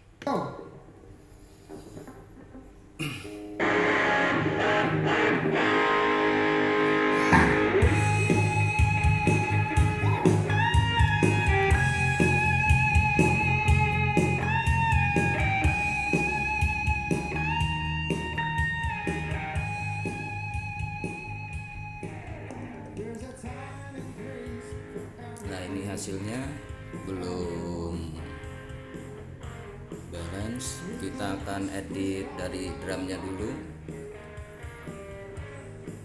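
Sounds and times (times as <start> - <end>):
guitar: 0.0 - 36.0
drums: 1.4 - 36.0
bass guitar: 3.0 - 36.0.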